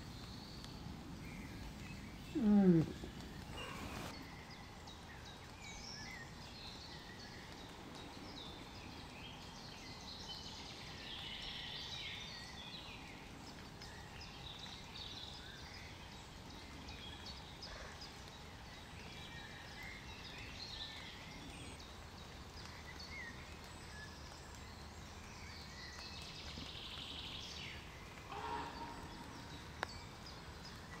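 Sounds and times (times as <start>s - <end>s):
small birds chirping: 0.0s - 31.0s
steady background hiss: 0.0s - 31.0s.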